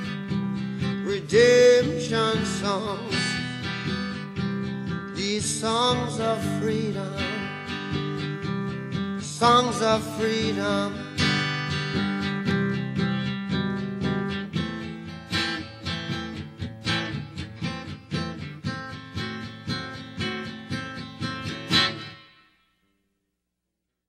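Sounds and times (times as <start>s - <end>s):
acoustic guitar strumming chords: 0.0s - 22.7s.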